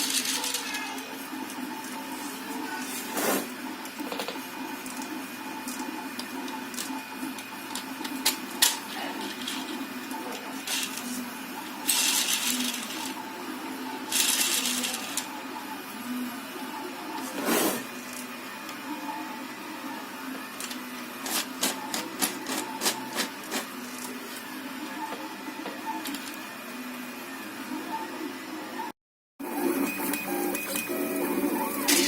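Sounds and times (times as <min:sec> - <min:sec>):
small machine whirring: 0:00.0 - 0:32.0.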